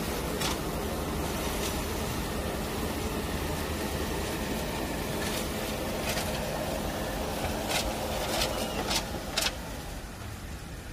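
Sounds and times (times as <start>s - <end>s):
ride-on sweeper motors and brushes whirring: 0.0s - 10.9s.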